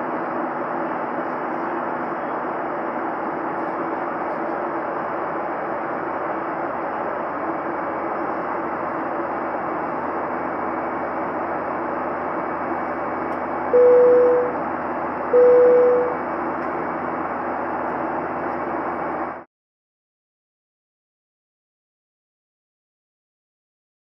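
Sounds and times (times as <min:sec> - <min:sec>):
airliner cabin noise: 0:00.1 - 0:19.4.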